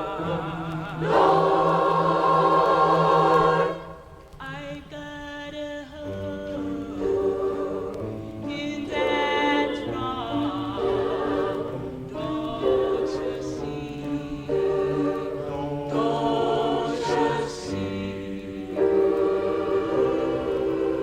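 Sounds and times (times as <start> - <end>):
choir singing in harmony: 0.0 - 4.4, 6.0 - 21.0.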